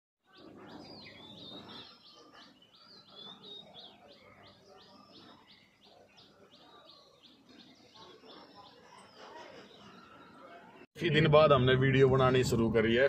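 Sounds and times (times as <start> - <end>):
birds chirping: 0.2 - 11.2.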